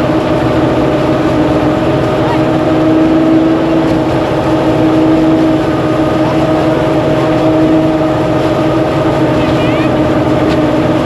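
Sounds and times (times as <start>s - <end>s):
threshing machine engine humming: 0.0s - 11.0s.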